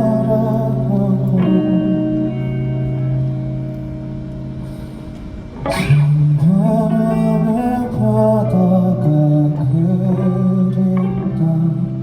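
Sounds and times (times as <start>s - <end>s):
guitar: 0.0s - 12.0s.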